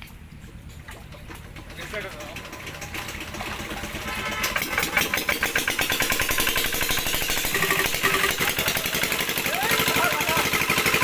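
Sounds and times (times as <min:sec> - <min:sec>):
small engine running: 0:00.9 - 0:11.0.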